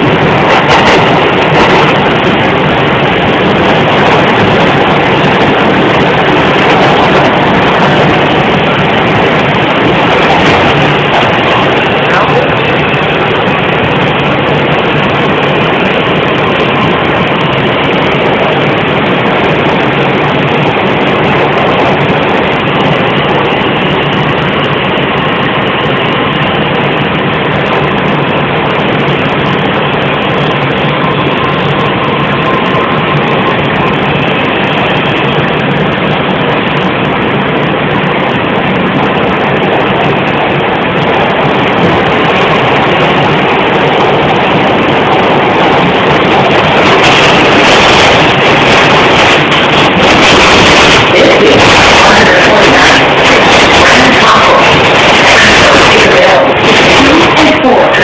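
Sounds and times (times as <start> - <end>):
subway wheels and motors rumbling: 0.0 - 58.0.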